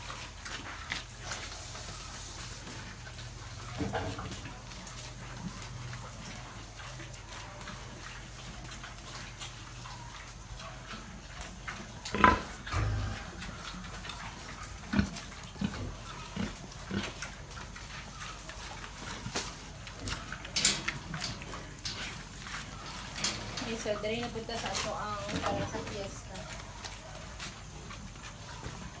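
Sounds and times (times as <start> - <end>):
pigs grunting and snuffling: 0.0 - 29.0.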